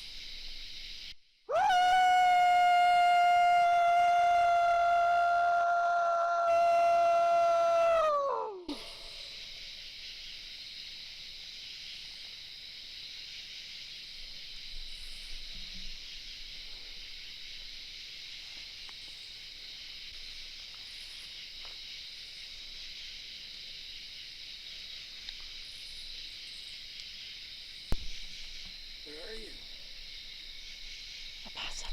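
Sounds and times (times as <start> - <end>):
night insects trilling: 0.0 - 31.9.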